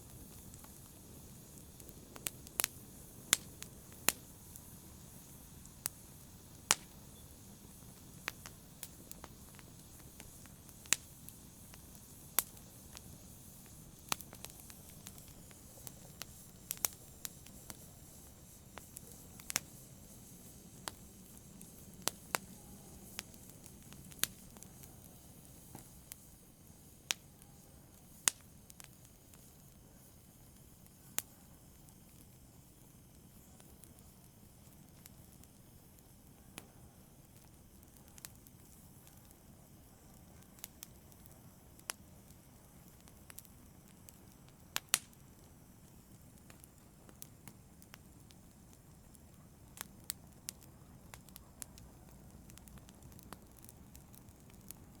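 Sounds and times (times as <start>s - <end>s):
sharp fire pops: 0.0s - 27.4s, 28.0s - 29.6s, 30.5s - 55.0s
soft steady hiss: 0.0s - 55.0s
wood fire crackling: 0.0s - 55.0s.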